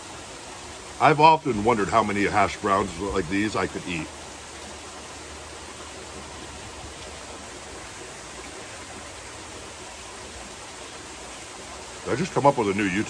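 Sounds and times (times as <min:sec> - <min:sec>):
waterfall splashing into pool: 0:00.0 - 0:13.0.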